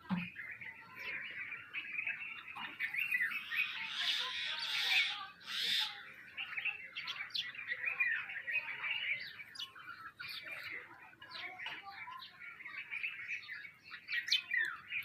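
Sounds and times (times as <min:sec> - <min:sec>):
flock of sparrows chirping: 0:00.0 - 0:15.0.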